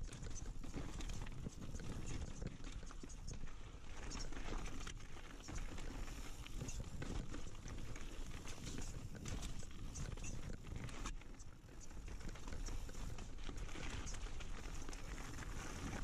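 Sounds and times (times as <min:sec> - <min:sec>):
bike rattling over rocks: 0:00.0 - 0:16.0.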